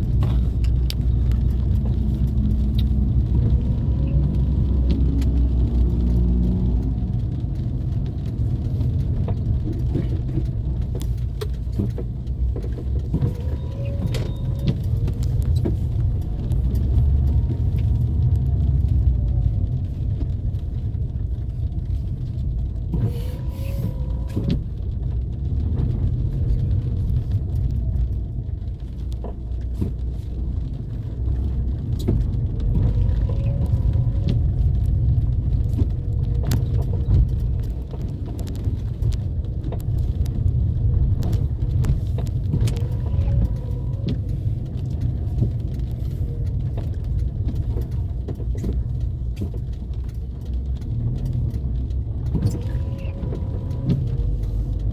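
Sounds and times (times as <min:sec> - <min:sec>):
car engine and tyres rumbling: 0:00.0 - 0:54.9.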